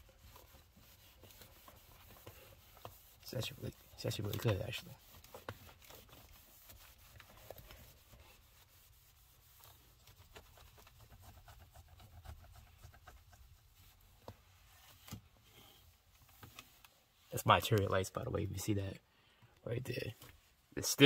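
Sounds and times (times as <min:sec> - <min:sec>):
cloth rubbing on plastic: 0:00.0 - 0:17.9.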